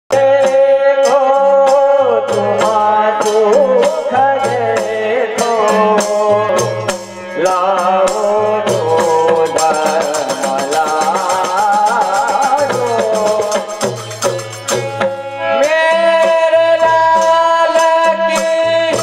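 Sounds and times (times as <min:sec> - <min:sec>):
devotional music with hand percussion: 0:00.1 - 0:19.0.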